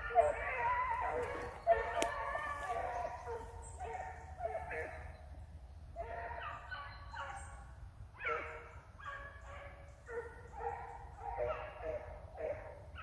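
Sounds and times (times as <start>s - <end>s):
hounds baying: 0.0s - 5.4s, 6.0s - 7.6s, 8.2s - 13.0s.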